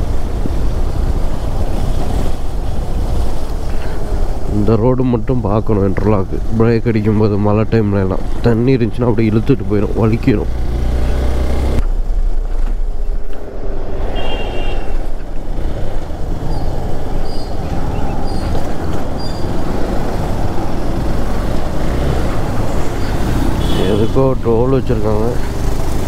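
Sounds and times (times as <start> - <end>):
wind rush and road noise: 0.0 - 26.0.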